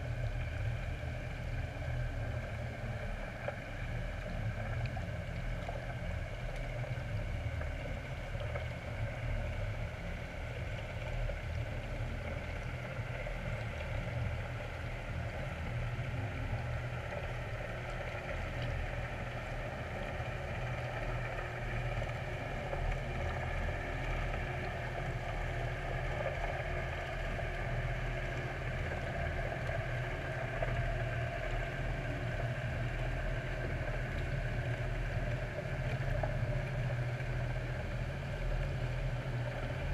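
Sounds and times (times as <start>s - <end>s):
low underwater rumble: 0.0s - 39.9s.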